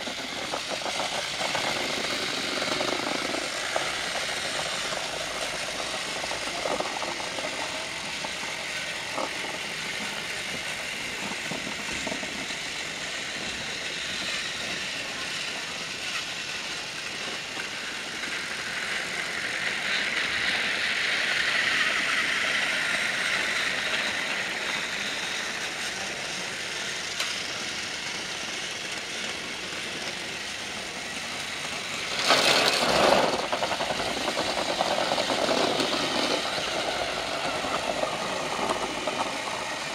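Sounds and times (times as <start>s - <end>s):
toy trains whirring and rattling: 0.0s - 39.9s.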